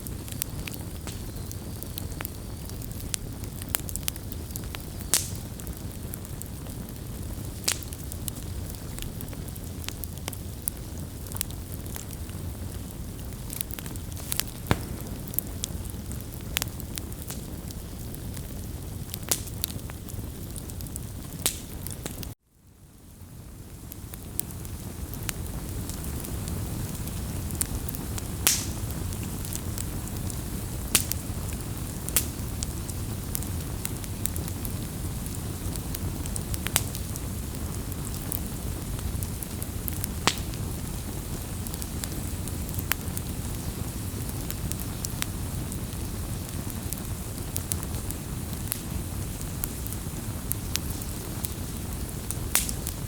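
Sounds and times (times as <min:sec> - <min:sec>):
bonfire flames rushing: 0:00.0 - 0:22.4, 0:23.2 - 0:53.0
fire crackling and popping: 0:00.0 - 0:53.0.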